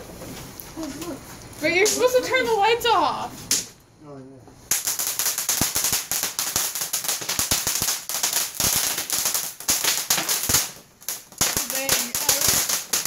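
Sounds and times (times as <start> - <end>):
firework crackling: 0.0 - 3.8, 4.6 - 13.0.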